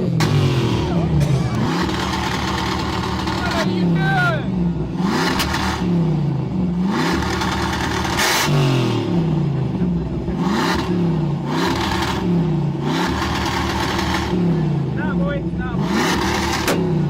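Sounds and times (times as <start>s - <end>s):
car engine revving: 0.0s - 17.0s
rasping exhaust noise: 0.0s - 17.0s.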